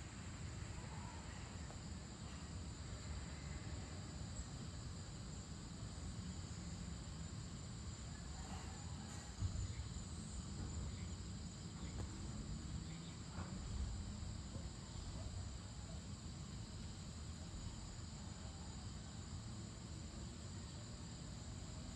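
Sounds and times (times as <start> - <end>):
crickets trilling: 0.0 - 21.9.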